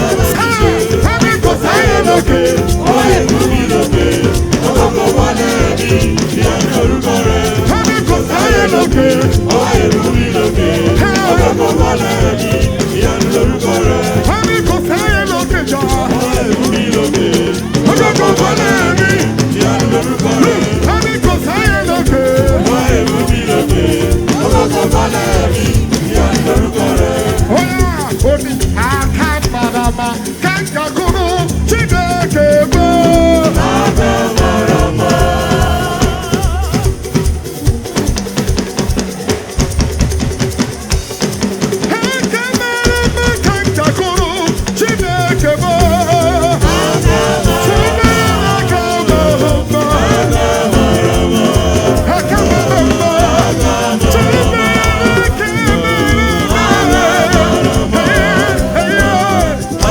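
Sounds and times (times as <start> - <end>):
lively drums and percussion: 0.0 - 59.9
voices singing: 0.0 - 59.9.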